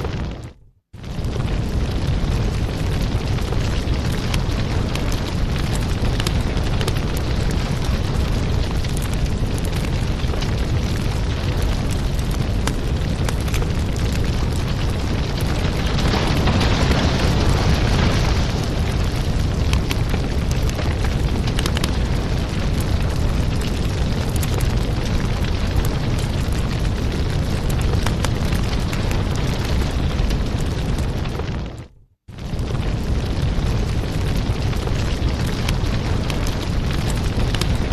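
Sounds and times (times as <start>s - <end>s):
fire crackling in fireplace: 0.0s - 37.9s.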